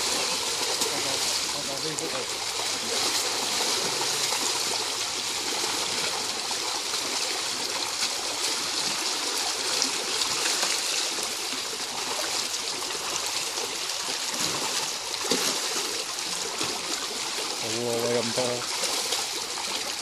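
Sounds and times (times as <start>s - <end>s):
fish thrashing and splashing water: 0.0s - 20.0s.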